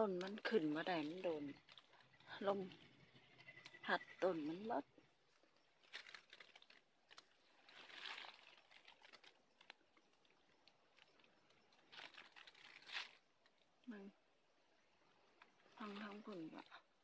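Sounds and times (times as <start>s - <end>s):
plant leaves rustling: 0.0s - 13.7s, 15.5s - 17.0s
small crackles: 0.0s - 14.2s, 14.9s - 17.0s.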